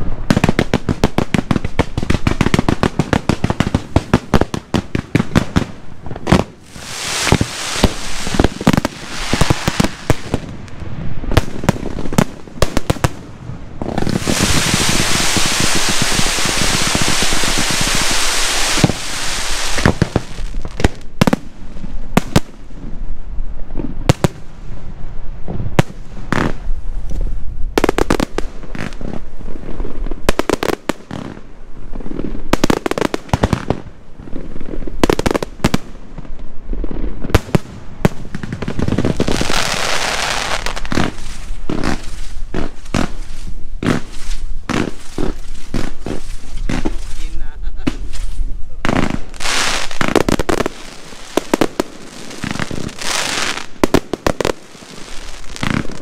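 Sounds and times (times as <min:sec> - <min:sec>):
fireworks bangs: 0:00.0 - 0:23.0, 0:23.6 - 0:56.0
fireworks crackling: 0:00.0 - 0:56.0.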